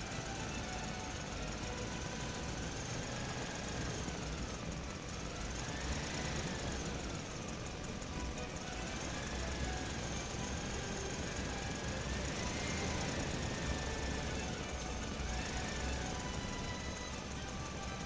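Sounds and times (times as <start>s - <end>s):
toy truck electric motor whine: 0.0s - 18.0s.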